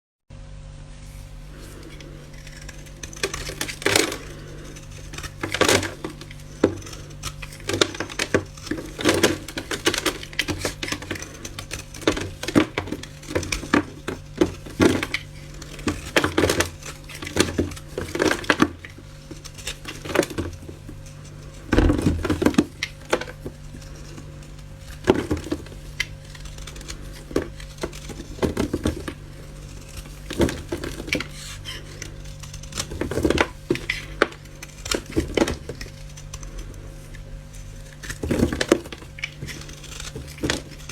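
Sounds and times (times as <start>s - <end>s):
steady low hum: 0.3s - 40.9s
brittle material crunching: 1.1s - 40.9s.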